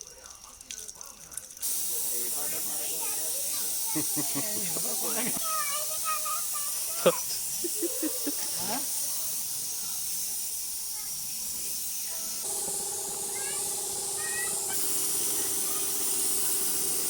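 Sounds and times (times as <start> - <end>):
paint spray gun hiss: 1.6 - 17.0.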